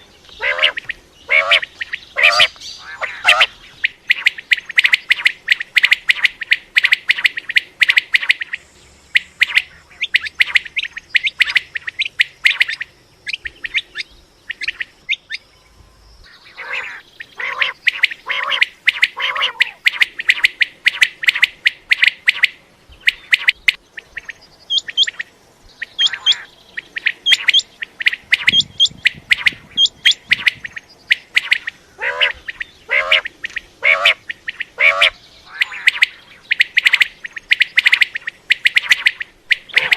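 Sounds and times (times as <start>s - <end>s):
quail calling: 0.3s - 15.4s, 16.3s - 39.9s.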